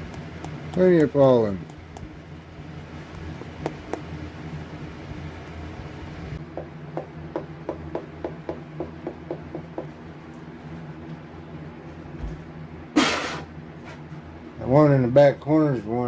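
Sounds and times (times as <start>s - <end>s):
fans humming: 0.0s - 16.0s.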